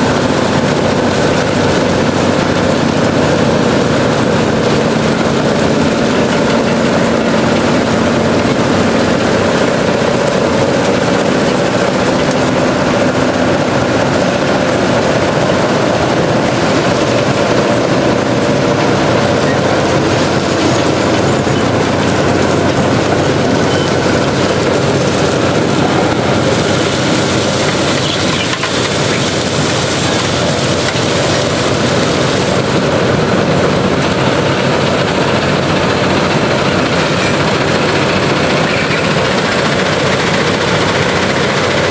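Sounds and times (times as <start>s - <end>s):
track machine mechanical din: 0.0s - 41.9s.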